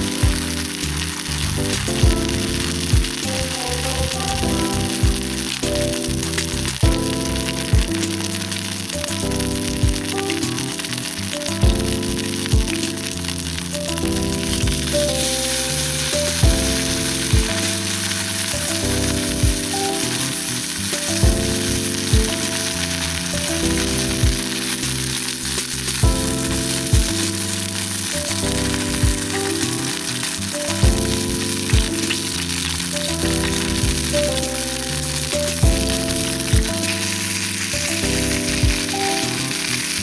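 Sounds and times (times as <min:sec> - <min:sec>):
background music with soft beat: 0:00.0 - 0:40.0
meat sizzling: 0:00.0 - 0:40.0.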